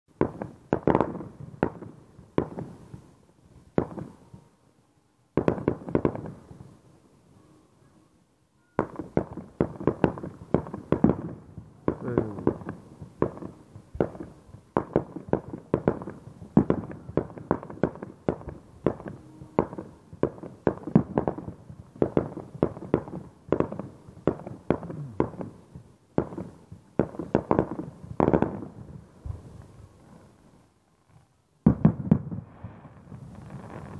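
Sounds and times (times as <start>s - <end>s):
fireworks bangs and crackles: 0.1s - 4.6s, 5.3s - 7.5s, 8.6s - 33.9s.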